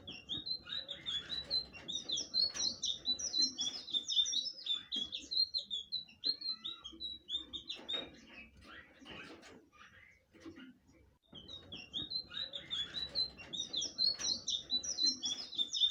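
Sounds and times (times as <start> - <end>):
bird twittering song: 0.0 - 15.9.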